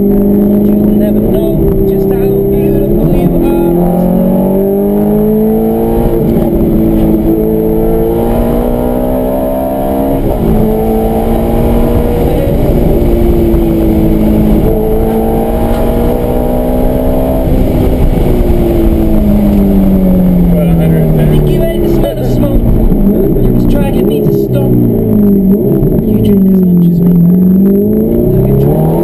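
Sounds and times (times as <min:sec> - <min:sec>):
car engine shifting through gears: 0:00.0 - 0:29.0.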